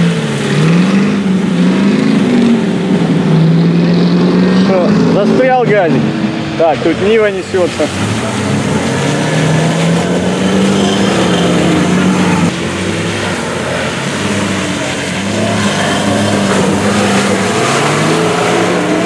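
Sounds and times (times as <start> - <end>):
engine revving hard: 0.0 - 19.0.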